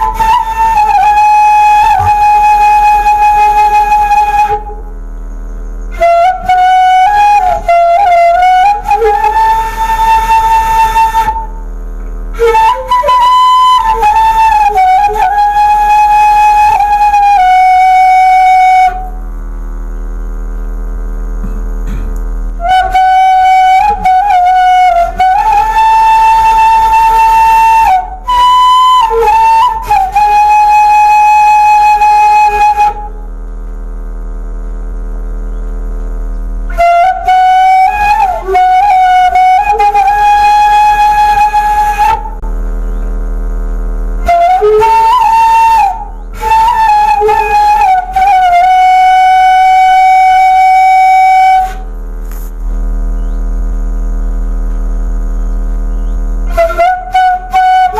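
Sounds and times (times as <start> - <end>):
bamboo flute playing: 0.0 - 5.0, 5.6 - 19.3, 22.5 - 33.4, 36.6 - 43.2, 44.2 - 57.9
steady low hum: 0.0 - 57.9.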